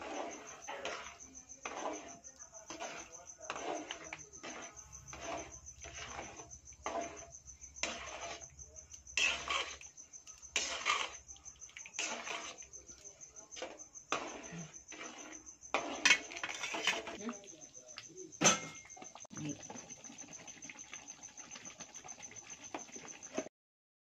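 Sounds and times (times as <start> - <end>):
ladle scraping metal pan: 0.0 - 23.5.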